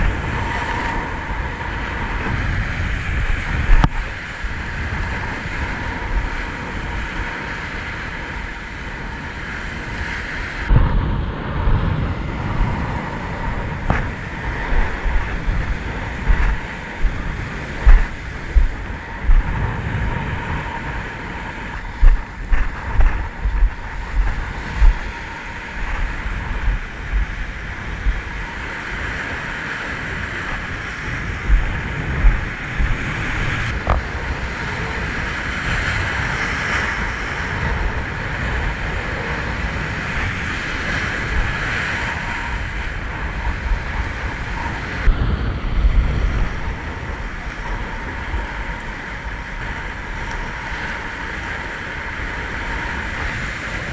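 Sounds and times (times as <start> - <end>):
surf breaking on rocks: 0.0 - 53.9
wind buffeting the microphone: 0.0 - 53.9.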